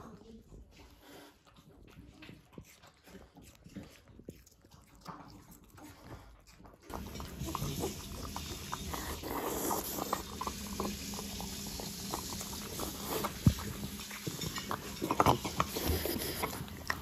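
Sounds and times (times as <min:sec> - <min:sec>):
dog chewing and lapping: 0:00.0 - 0:17.0.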